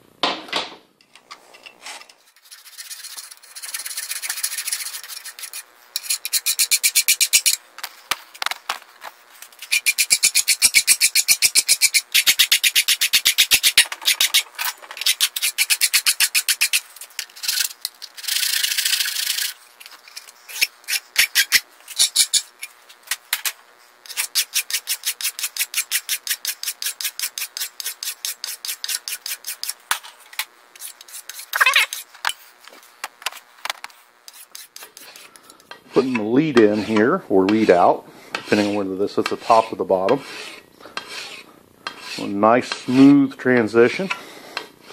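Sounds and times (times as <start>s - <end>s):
hand file rasping metal: 2.3s - 7.6s, 9.5s - 22.7s, 23.4s - 29.9s, 30.8s - 32.1s, 34.3s - 43.3s, 44.0s - 44.9s.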